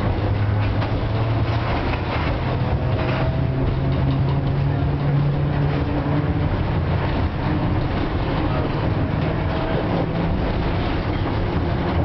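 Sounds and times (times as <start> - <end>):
low motor hum: 0.0 - 12.0
wheels rumbling on rails: 0.0 - 12.0.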